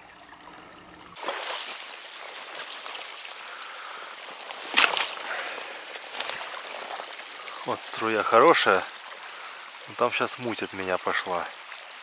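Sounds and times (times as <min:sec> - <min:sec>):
stream splashing around wader: 0:00.0 - 0:12.0.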